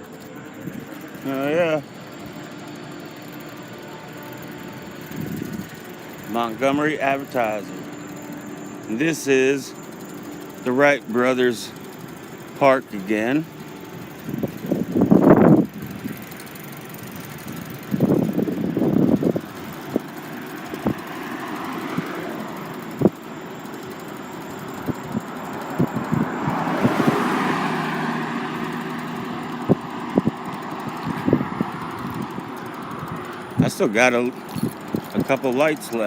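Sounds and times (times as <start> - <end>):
passing traffic rush: 0.0 - 36.0
steady rushing background: 0.0 - 36.0.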